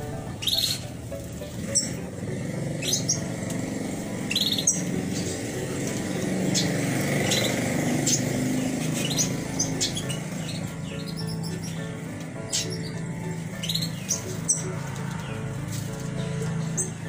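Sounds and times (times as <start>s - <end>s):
finches chirping: 0.0s - 1.0s, 1.6s - 17.0s.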